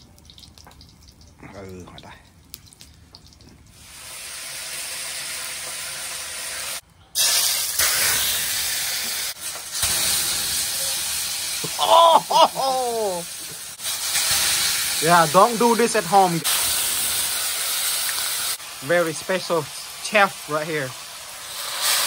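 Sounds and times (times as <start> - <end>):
hot oil sizzling in a pot: 0.0 - 1.8, 2.4 - 22.0.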